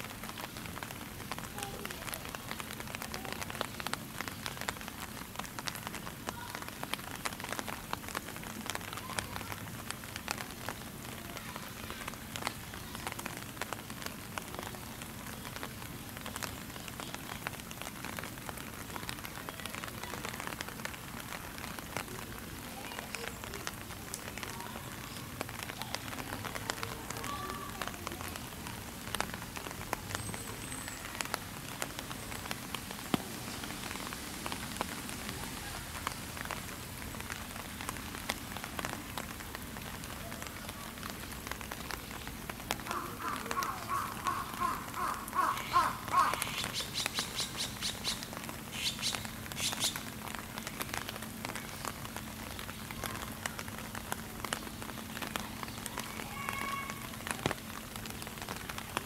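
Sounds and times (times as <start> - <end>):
raindrops ticking on surfaces: 0.0 - 59.0
steady rain falling: 0.0 - 59.0.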